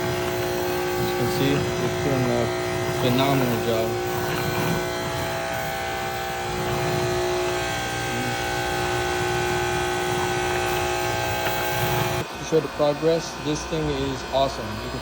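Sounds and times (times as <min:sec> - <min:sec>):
pressure washer motor humming: 0:00.0 - 0:15.0.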